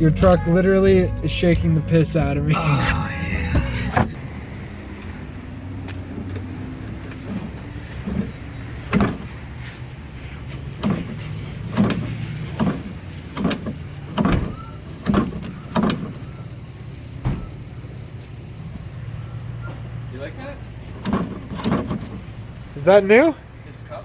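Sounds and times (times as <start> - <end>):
pickup engine idling: 0.0 - 23.8.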